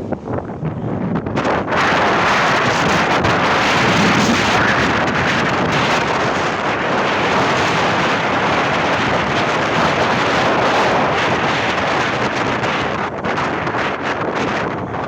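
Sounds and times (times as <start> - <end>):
wind hitting microphone: 0.0 - 15.0.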